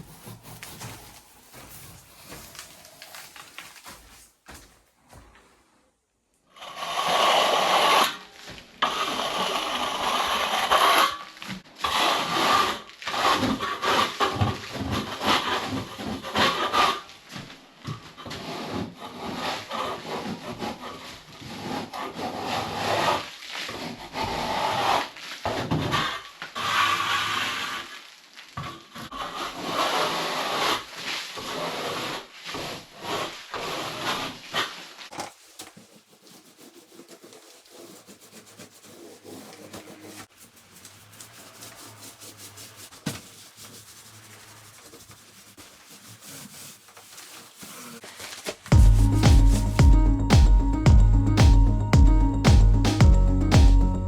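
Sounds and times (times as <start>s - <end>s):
hand tools scraping plaster wall: 0.0s - 5.8s, 6.6s - 49.8s.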